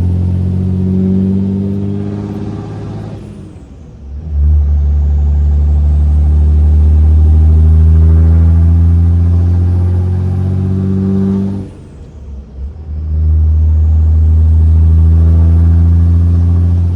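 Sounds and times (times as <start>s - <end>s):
diesel engine accelerating: 0.0s - 16.9s.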